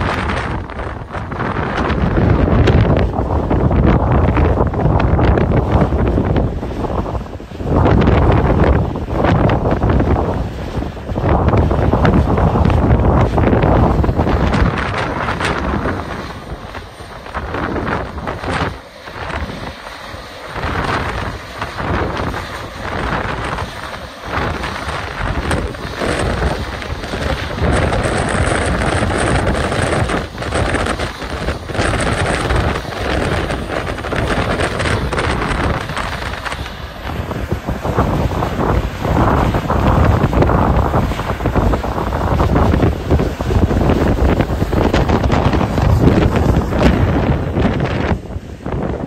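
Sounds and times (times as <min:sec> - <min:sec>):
gusty wind buffeting microphone: 0:00.0 - 0:49.0.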